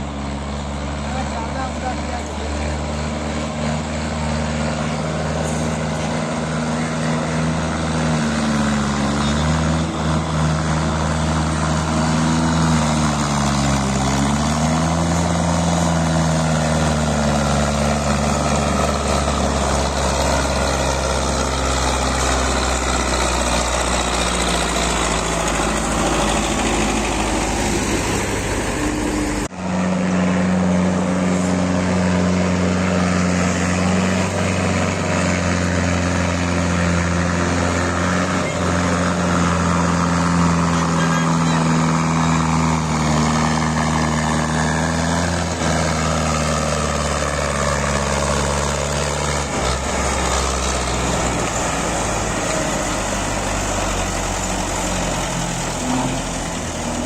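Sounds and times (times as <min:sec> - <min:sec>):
tractor diesel engines running: 0:00.0 - 0:57.0.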